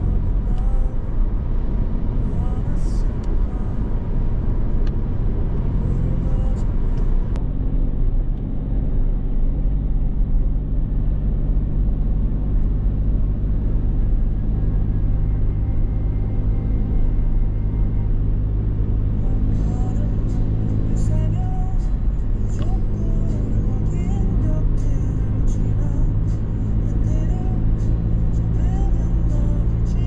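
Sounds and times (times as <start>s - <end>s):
road rumble: 0.0s - 30.0s
vehicle engine hum: 0.0s - 30.0s.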